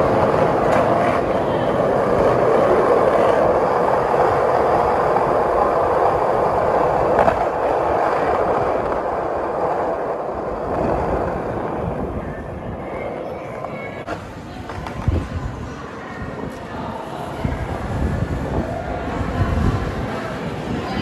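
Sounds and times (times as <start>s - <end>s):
skate wheels rolling on pavement: 0.0s - 21.0s.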